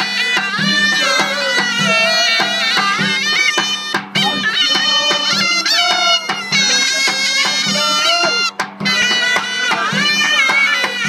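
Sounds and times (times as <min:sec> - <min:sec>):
bass drum strokes: 0:00.0 - 0:11.0
zurna melody: 0:00.0 - 0:11.0.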